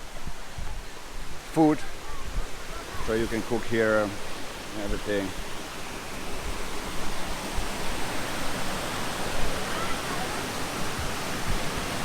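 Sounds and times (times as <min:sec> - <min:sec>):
water pouring down waterfall: 0:00.0 - 0:12.0.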